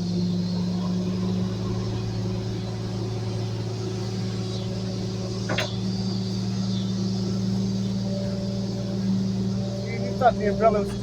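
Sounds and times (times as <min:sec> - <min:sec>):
garbage truck engine droning: 0:00.0 - 0:11.0.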